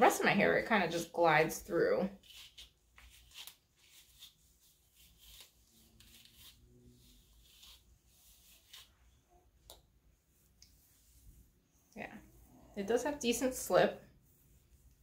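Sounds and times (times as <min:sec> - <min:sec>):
brush swishing through hair: 0:00.2 - 0:09.4, 0:10.0 - 0:15.0.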